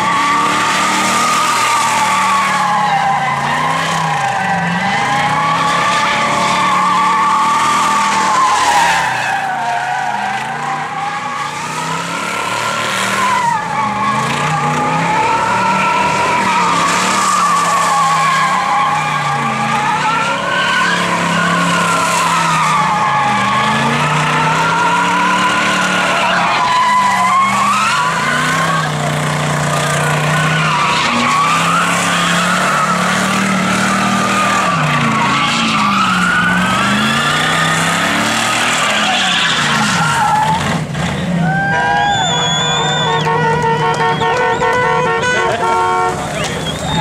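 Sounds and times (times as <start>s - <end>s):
engine at high revs: 0.0s - 41.4s
tire squeal: 0.0s - 47.0s.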